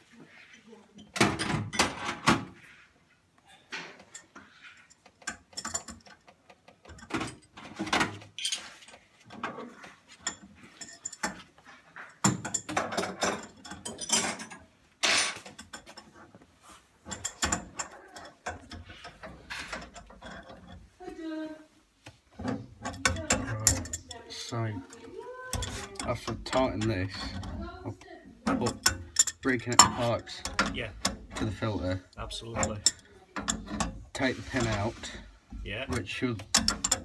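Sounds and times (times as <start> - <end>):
tools clicking on plumbing fittings: 3.7 - 16.4, 17.0 - 21.0, 22.1 - 37.0.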